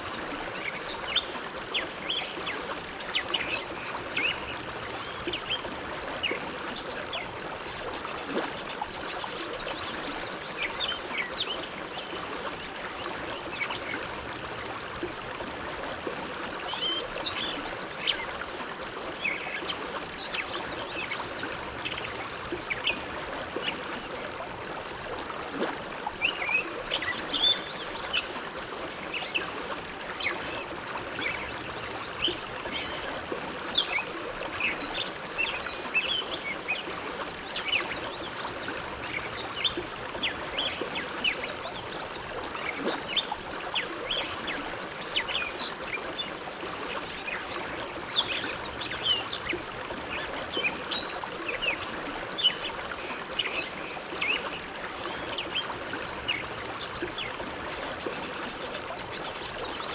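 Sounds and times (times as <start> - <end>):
river flowing and babbling: 0.0 - 59.9.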